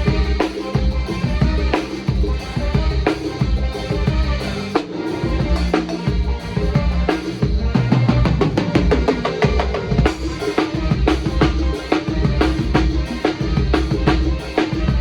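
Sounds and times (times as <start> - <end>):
bass drum: 0.0 - 15.0
snare drum: 0.0 - 15.0.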